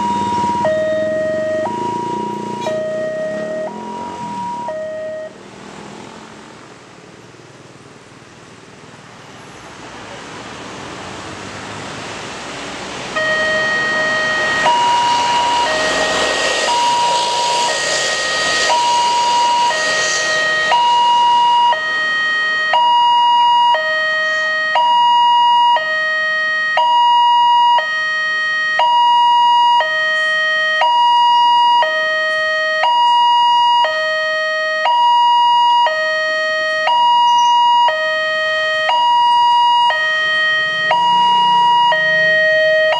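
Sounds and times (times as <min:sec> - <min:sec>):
two-tone crossing alarm: 0:00.0 - 0:05.4, 0:13.1 - 0:42.9
passing road traffic: 0:00.0 - 0:42.9.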